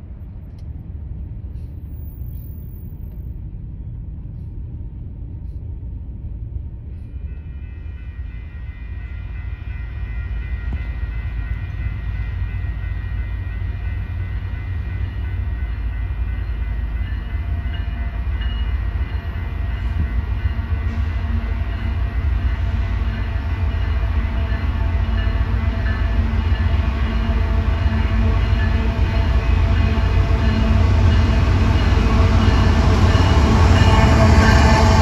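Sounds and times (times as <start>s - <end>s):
diesel locomotives rumbling: 0.0s - 35.0s.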